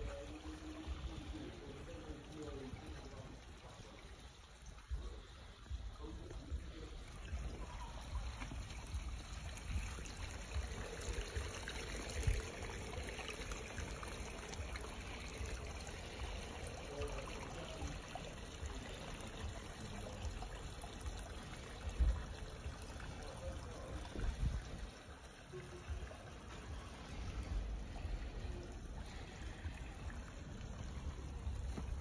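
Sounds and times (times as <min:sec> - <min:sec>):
water trickling: 0:00.0 - 0:32.0.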